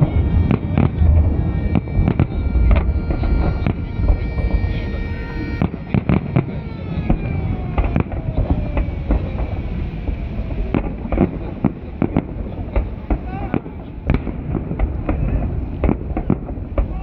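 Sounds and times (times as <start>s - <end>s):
falling firework whistles: 0.0s - 17.0s
fireworks bangs and pops: 0.0s - 17.0s.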